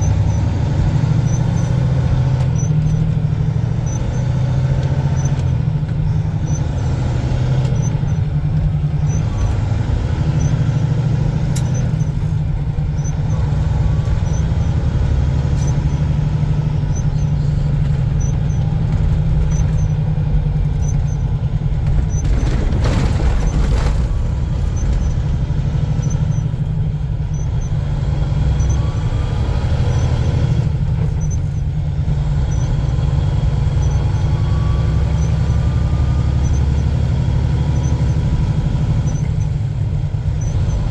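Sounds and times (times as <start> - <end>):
truck engine and road drone: 0.0 - 40.9.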